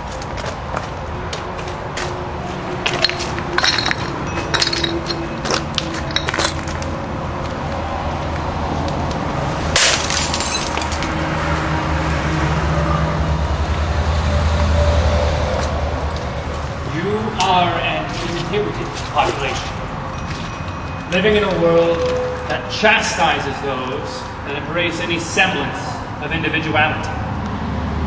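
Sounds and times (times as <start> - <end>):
dark low drone: 0.0 - 26.3.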